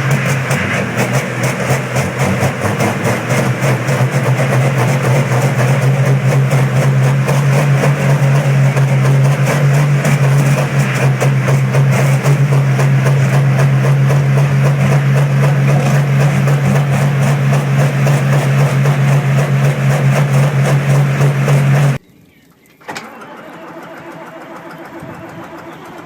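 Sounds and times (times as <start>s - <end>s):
diesel engine clattering: 0.0s - 22.0s, 23.2s - 26.0s.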